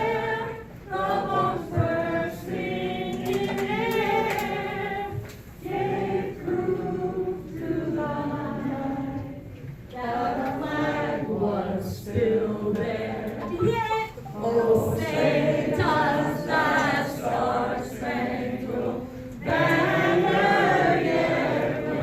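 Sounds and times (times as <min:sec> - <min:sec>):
voices singing without instruments: 0:00.0 - 0:22.0.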